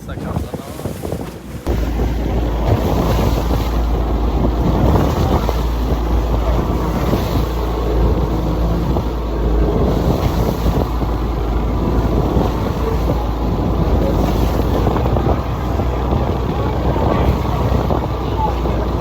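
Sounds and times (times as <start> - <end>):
wind buffeting microphone: 0.0 - 19.0
motorboat engine running: 0.1 - 19.0.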